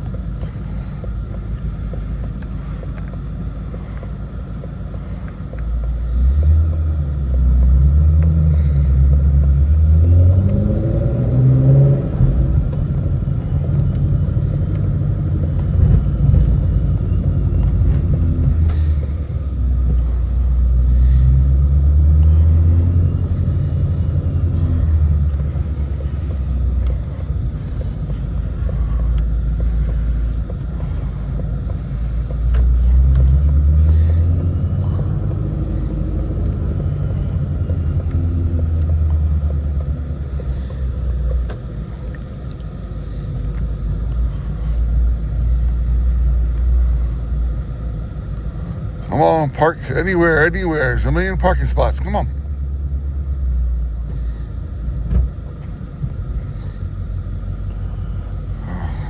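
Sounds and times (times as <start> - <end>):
car engine accelerating: 0.0 - 59.0
engine drone from inside car: 0.0 - 59.0.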